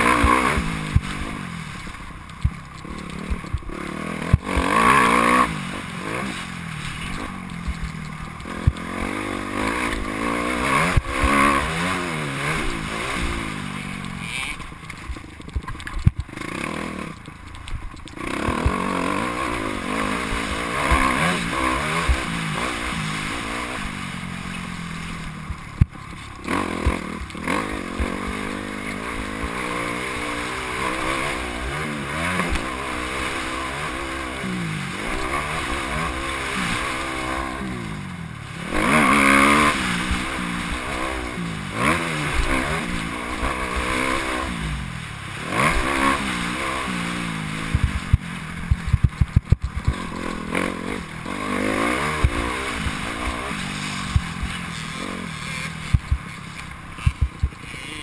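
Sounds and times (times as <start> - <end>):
motorbike engine revving: 0.0 - 15.2, 16.0 - 17.3, 18.0 - 58.0.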